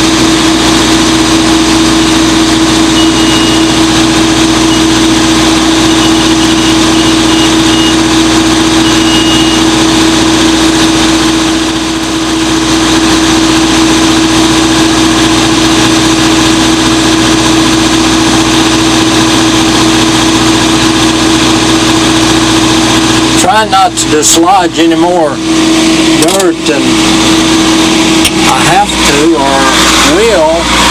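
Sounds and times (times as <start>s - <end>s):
engine idling with hum: 0.0s - 30.9s.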